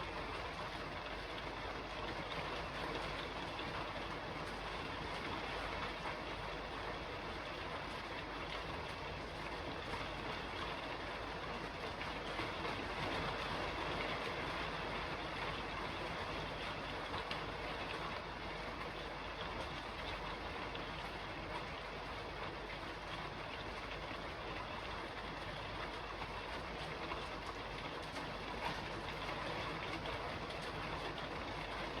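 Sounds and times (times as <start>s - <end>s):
rain on a roof: 0.0s - 32.0s.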